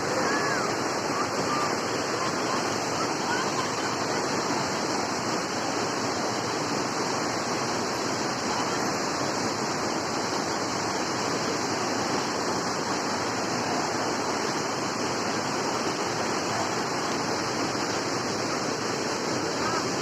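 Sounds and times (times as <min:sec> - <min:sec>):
falling water rushing: 0:00.0 - 0:20.0.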